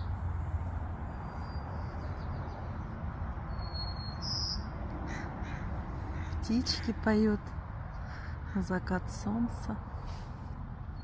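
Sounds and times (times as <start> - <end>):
songbird singing: 0.0 - 9.5, 10.8 - 11.0.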